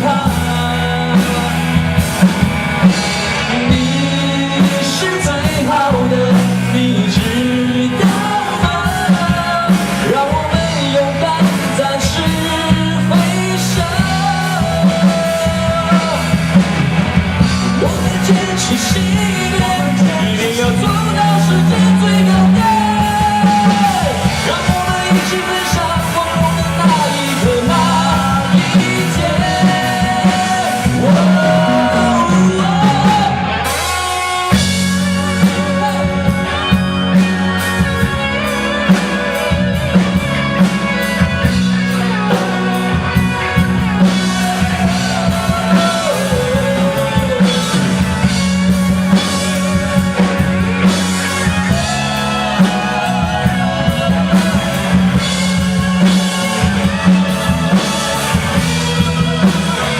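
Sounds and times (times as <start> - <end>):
bass guitar: 0.0 - 59.9
drum kit: 0.0 - 59.9
electric guitar: 0.0 - 59.9
melodic lead line: 0.0 - 59.9.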